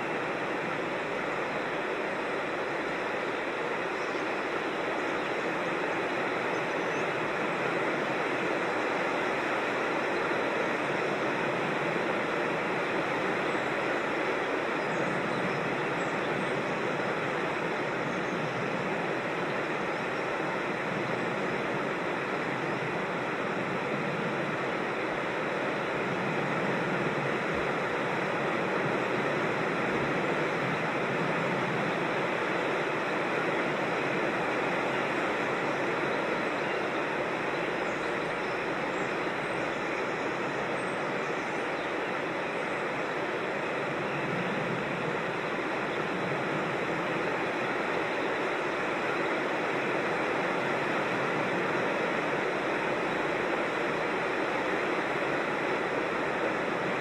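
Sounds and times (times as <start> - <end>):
creek rushing over waterfalls: 0.0 - 57.0.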